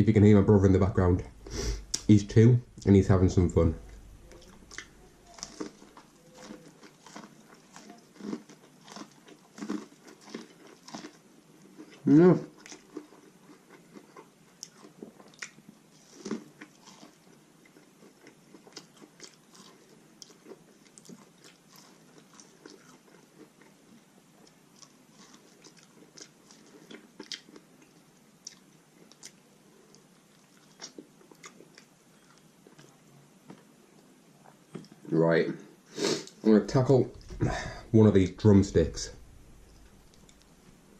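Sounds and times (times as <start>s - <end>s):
person chewing food: 3.8s - 35.0s, 39.2s - 40.9s.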